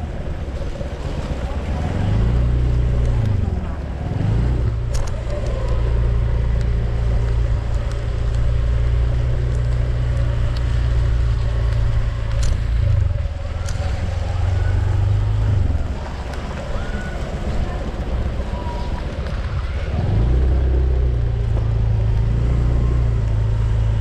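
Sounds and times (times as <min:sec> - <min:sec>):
vehicle engine deep hum: 0:00.0 - 0:24.0.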